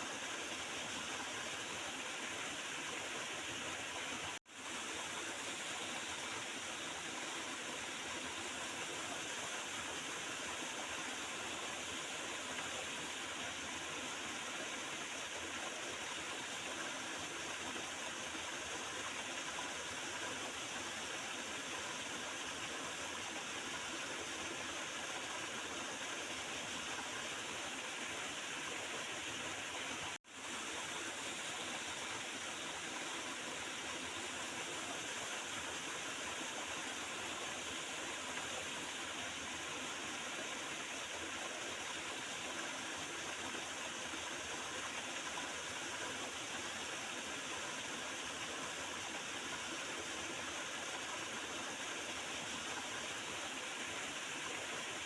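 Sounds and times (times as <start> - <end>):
small river gurgling and rushing: 0.0 - 55.0.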